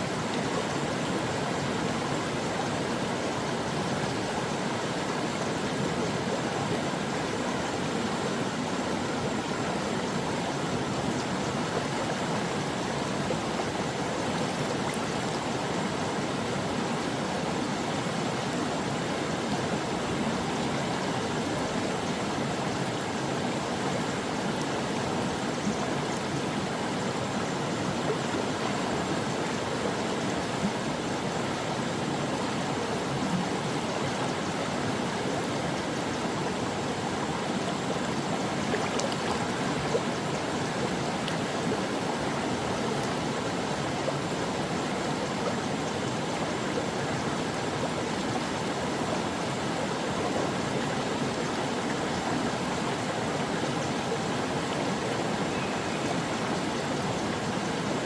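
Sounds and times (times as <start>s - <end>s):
brook water flowing: 0.0s - 58.0s.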